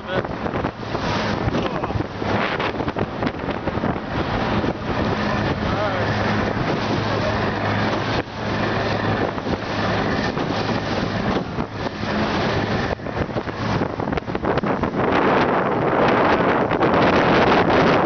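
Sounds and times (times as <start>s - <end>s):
gusting wind buffeting microphone: 0.0s - 18.0s.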